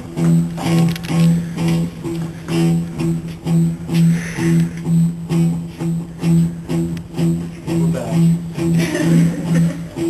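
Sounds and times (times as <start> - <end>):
guitar strumming low chord: 0.0 - 10.0.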